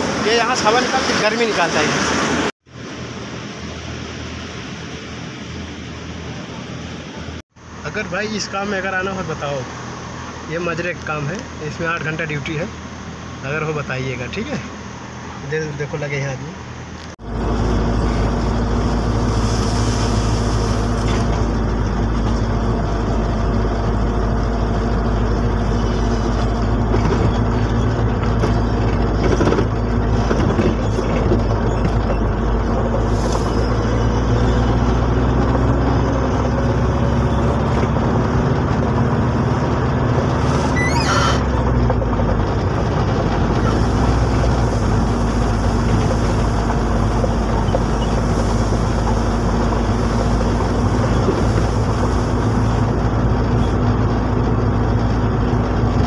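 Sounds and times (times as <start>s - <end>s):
road noise: 0.0s - 56.0s
vehicle engine hum: 0.0s - 56.0s.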